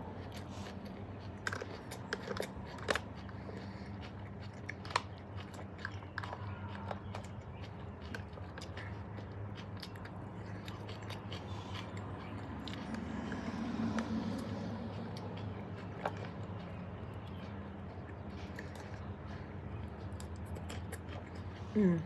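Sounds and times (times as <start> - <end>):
low hum: 0.0 - 22.0
person chewing: 0.0 - 22.0.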